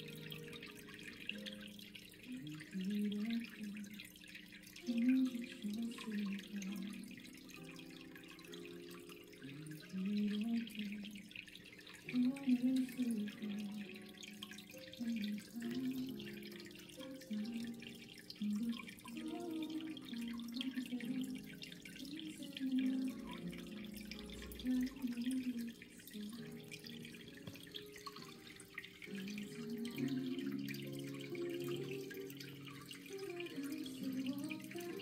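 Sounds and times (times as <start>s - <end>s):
water trickling and dripping: 0.0s - 35.0s.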